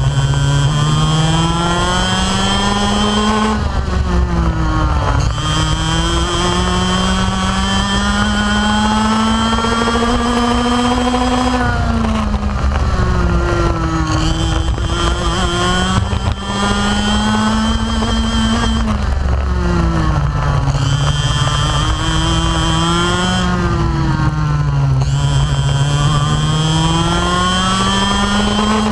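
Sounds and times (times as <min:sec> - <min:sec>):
kart engine revving: 0:00.0 - 0:28.9.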